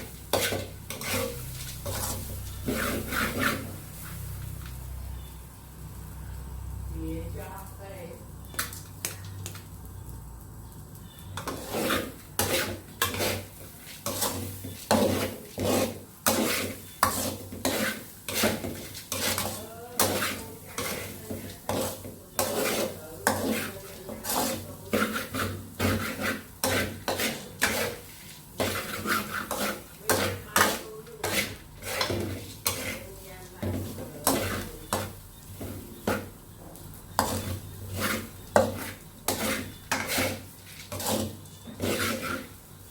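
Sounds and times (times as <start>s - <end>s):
spoon stirring and scraping a pot: 0.0s - 5.3s, 11.0s - 42.9s.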